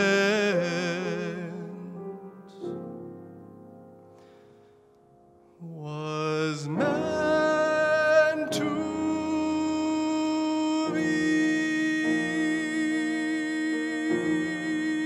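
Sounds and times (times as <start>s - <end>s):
man singing long notes: 0.0s - 2.9s, 5.6s - 15.0s
piano chords: 0.0s - 15.0s.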